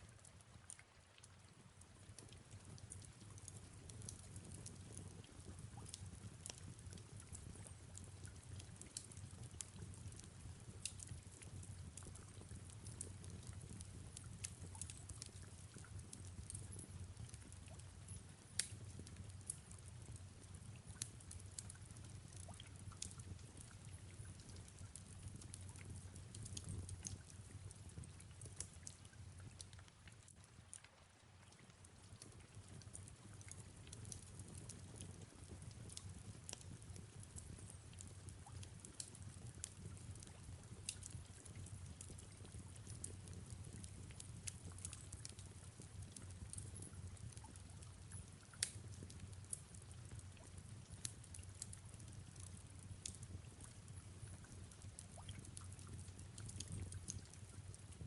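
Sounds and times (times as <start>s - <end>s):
faint fireplace crackling: 0.0s - 58.0s
soft rain: 0.0s - 58.0s.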